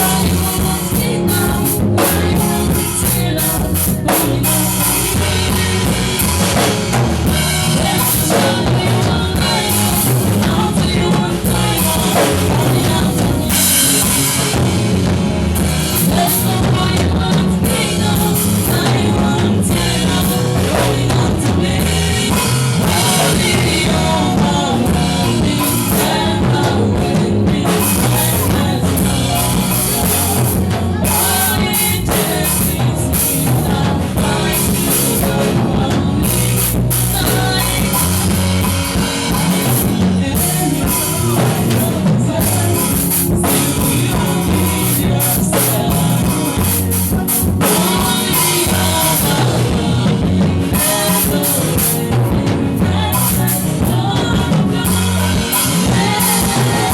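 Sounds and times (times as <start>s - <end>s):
rock music with drums: 0.0s - 56.9s.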